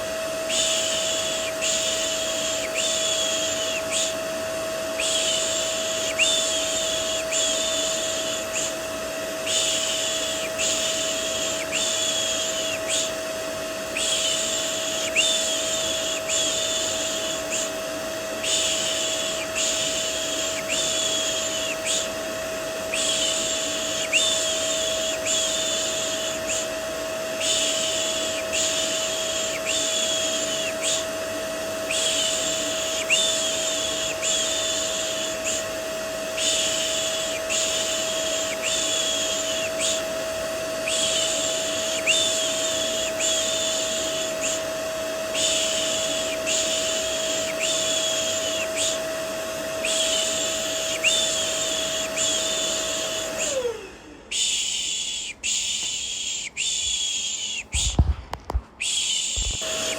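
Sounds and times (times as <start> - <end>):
vacuum cleaner humming: 0.0 - 59.9.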